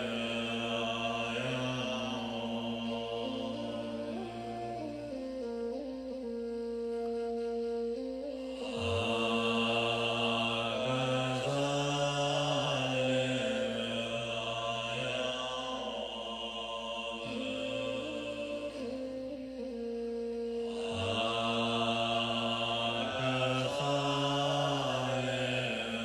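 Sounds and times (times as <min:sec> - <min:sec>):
man chanting in low notes: 0:00.0 - 0:06.4, 0:08.0 - 0:26.0
steady droning tone: 0:00.0 - 0:26.0.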